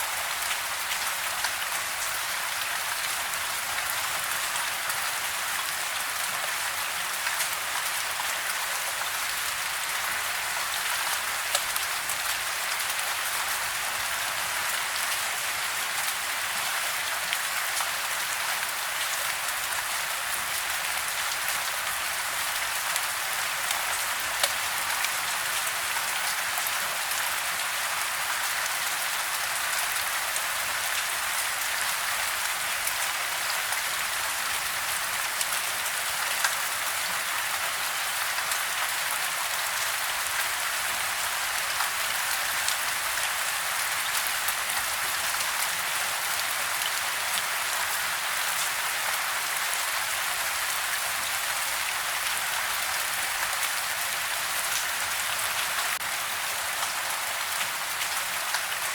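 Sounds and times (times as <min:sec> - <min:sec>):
rain falling on a house: 0:00.0 - 0:58.9.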